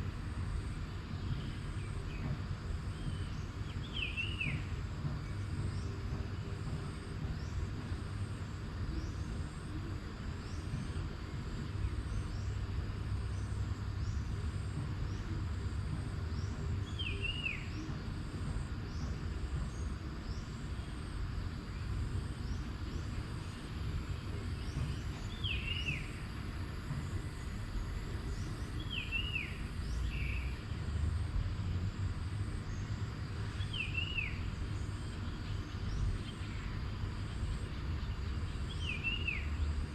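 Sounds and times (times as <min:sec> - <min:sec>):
high insect chirps: 0:06.6 - 0:39.9.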